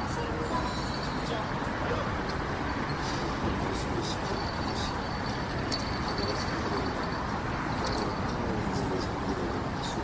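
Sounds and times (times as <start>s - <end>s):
distant city traffic hum: 0.0s - 10.0s.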